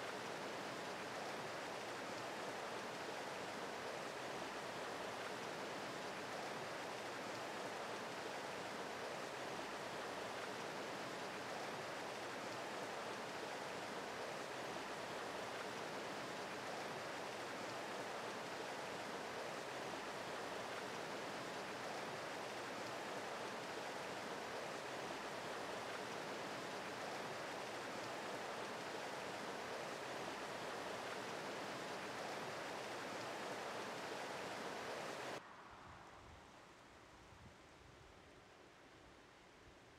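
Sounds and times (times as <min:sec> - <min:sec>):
creek flowing over rocks: 0:00.0 - 0:35.8.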